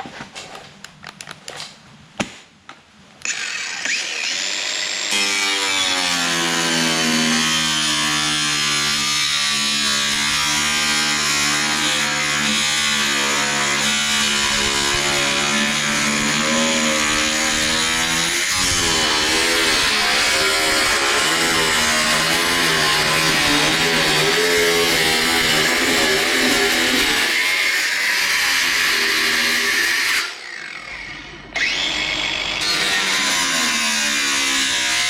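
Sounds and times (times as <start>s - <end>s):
power tool cutting sheet metal: 3.2s - 35.0s.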